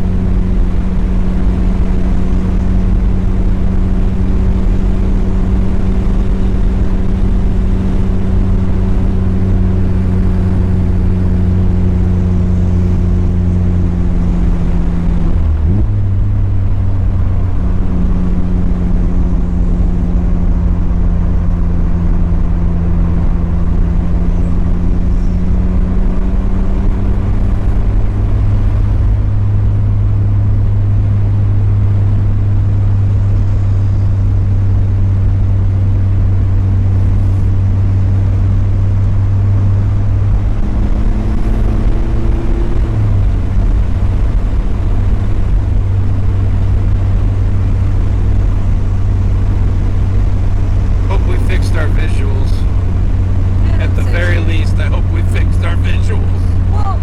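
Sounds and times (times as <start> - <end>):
car engine cruising: 0.0 - 57.0
road noise: 0.0 - 57.0.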